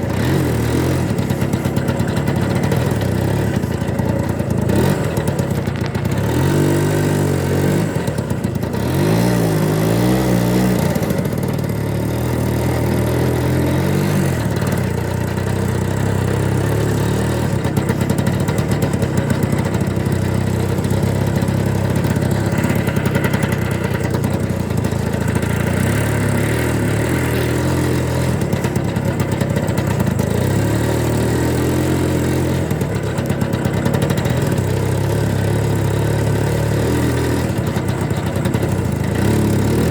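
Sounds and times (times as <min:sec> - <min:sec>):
tricycle engine revving: 0:00.0 - 0:39.9.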